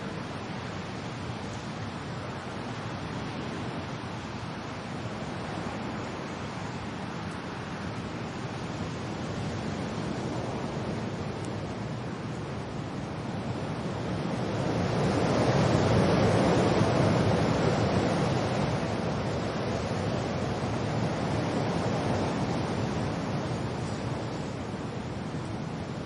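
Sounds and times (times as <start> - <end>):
rain: 0.0 - 26.0
wind: 0.0 - 26.0.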